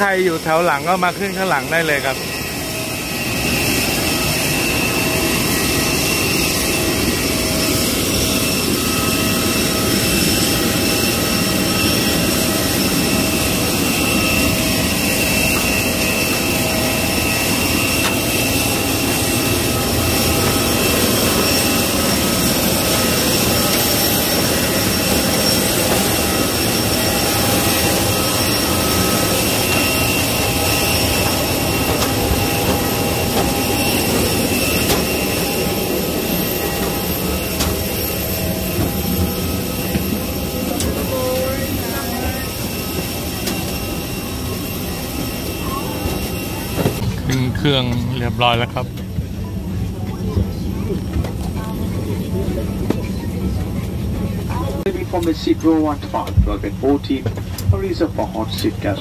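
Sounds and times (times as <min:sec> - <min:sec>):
jet turbine rushing: 0:00.0 - 0:49.9.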